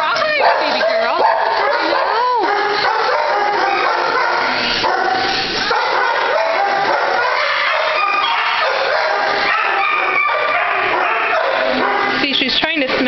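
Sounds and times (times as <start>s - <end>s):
dogs barking and yipping: 0.0s - 13.0s.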